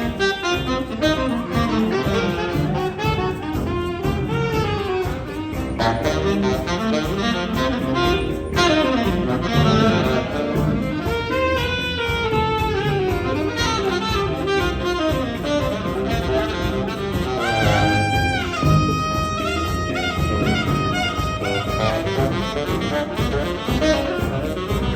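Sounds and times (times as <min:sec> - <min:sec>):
bass guitar: 0:00.0 - 0:24.9
piano: 0:00.0 - 0:24.9
saxophone ensemble jazz: 0:00.0 - 0:24.9.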